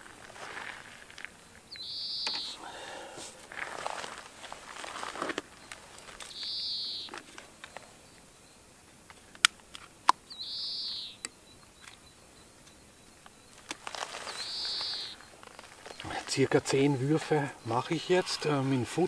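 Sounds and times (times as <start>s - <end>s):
bird call: 1.4s - 8.7s, 10.1s - 19.0s.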